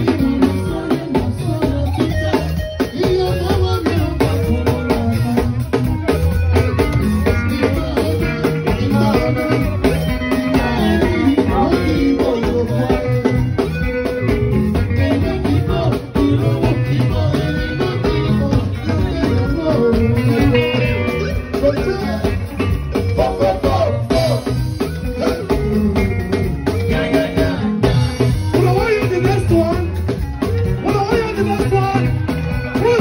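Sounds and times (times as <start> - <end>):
bass guitar: 0.0 - 33.0
drum kit steady beat: 0.0 - 33.0
electric guitar: 0.0 - 33.0
person singing: 0.0 - 33.0.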